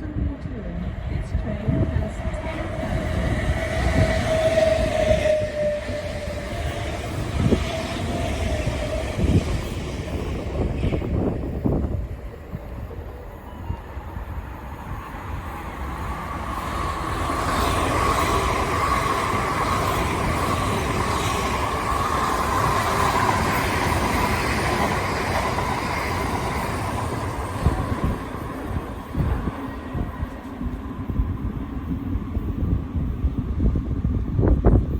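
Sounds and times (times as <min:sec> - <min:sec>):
electric train running on tracks: 0:00.0 - 0:34.9
train whining tone: 0:00.0 - 0:34.9.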